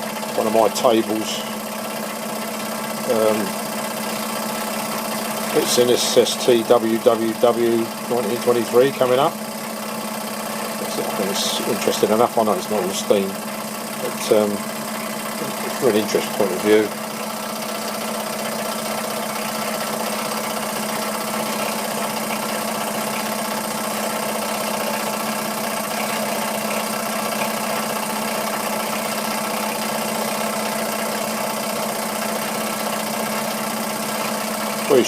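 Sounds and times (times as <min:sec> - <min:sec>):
model engine running: 0:00.0 - 0:35.0.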